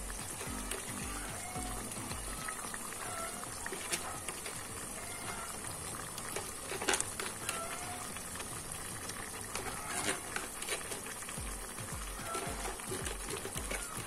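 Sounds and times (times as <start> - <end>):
curry bubbling in a wok: 0.0 - 14.0.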